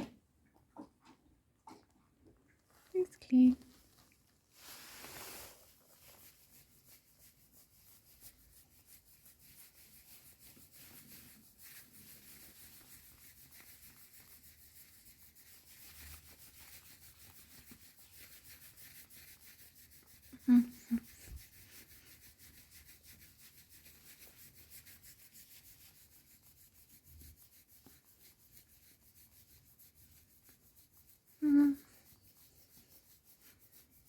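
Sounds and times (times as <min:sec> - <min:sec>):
fast rubbing near microphone: 0:04.6 - 0:34.0.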